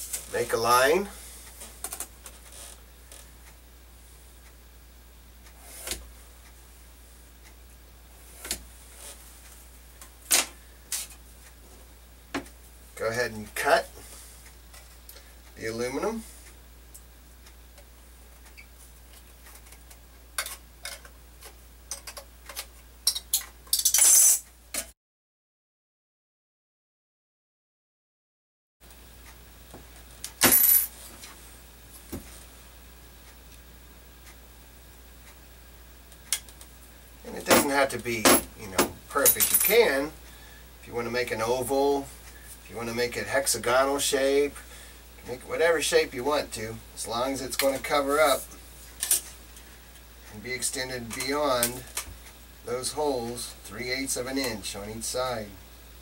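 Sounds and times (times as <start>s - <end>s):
low steady hum: 0.0s - 24.9s, 28.8s - 56.0s.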